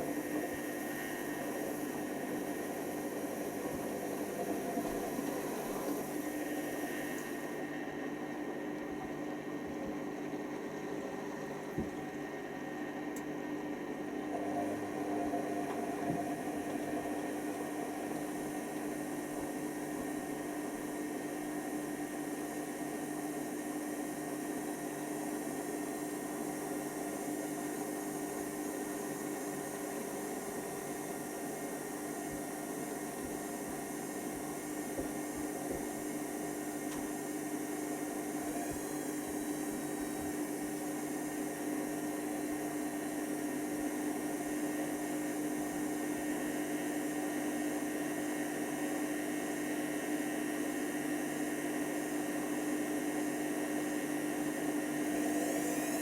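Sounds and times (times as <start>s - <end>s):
washer dryer humming: 0.0s - 56.0s.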